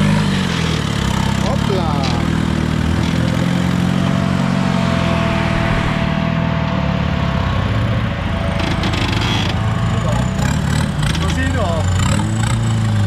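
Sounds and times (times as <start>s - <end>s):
buggy engine running loud: 0.0s - 13.0s.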